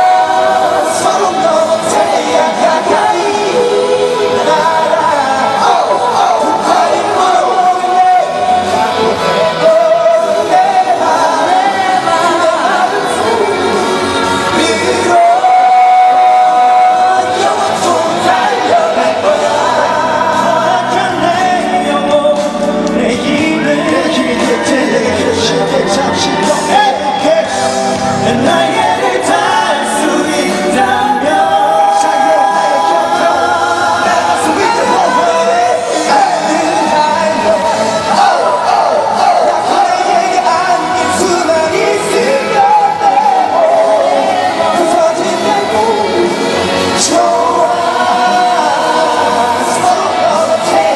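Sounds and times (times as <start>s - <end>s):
backing track music: 0.0s - 50.9s
live pop band playing: 0.0s - 50.9s
person singing with vibrato: 0.0s - 50.9s.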